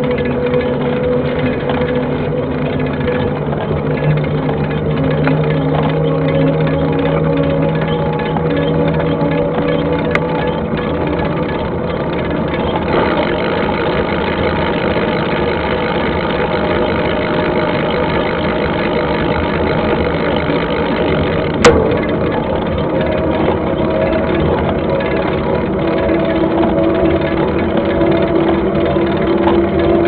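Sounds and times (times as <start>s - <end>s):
wind and tyres on dirt: 0.0s - 30.0s.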